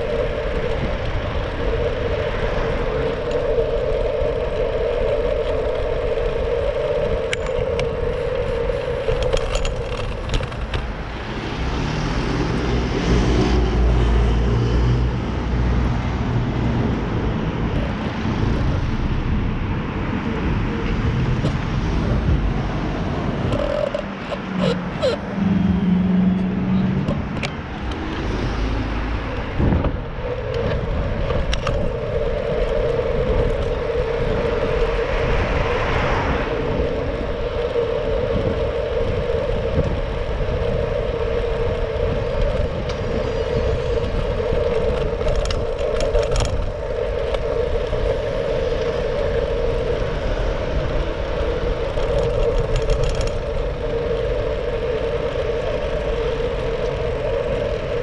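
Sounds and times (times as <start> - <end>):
bicycle clicks and rattles: 0.0 - 13.8, 20.2 - 25.2, 27.0 - 58.0
city traffic: 0.0 - 58.0
road noise: 0.0 - 58.0
wind rumble: 0.0 - 58.0.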